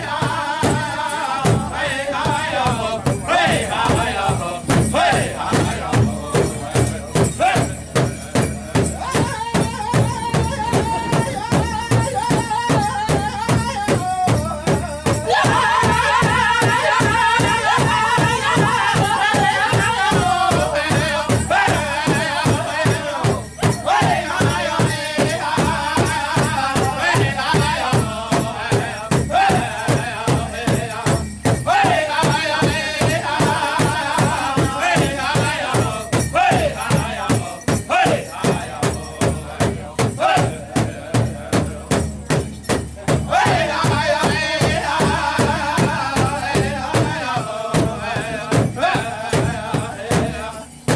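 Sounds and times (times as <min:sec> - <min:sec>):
singers in unison: 0:00.0 - 0:07.8, 0:14.8 - 0:42.0, 0:43.1 - 0:50.9
large drum beating: 0:00.0 - 0:50.9.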